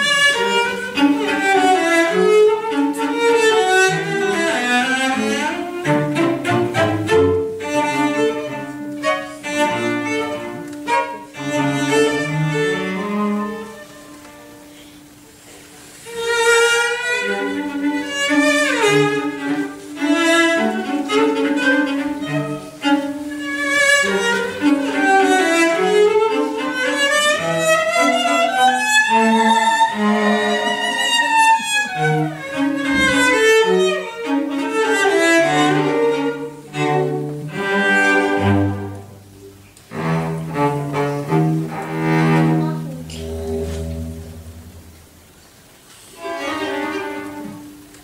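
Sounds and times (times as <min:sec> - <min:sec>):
cello ensemble playing: 0:00.0 - 0:48.0.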